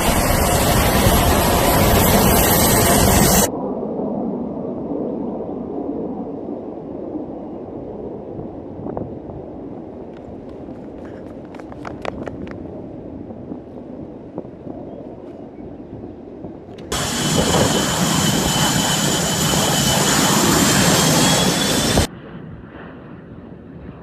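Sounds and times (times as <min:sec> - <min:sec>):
jet engines rushing and whining: 0:00.0 - 0:13.2, 0:16.2 - 0:24.0.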